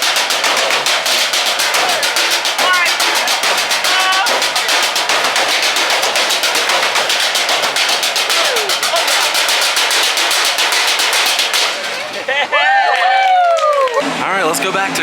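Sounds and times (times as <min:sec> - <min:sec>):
drumming on trash cans and buckets: 0:00.0 - 0:13.2, 0:14.0 - 0:15.0
faint crowd voices: 0:01.2 - 0:13.4, 0:14.0 - 0:15.0.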